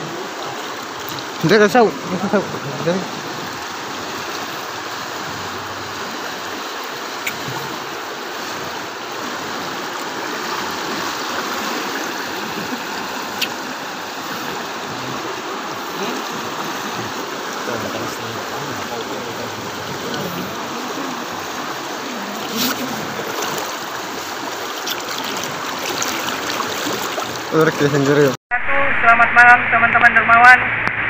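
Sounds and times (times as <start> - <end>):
floodwater rushing: 0.0 - 28.4.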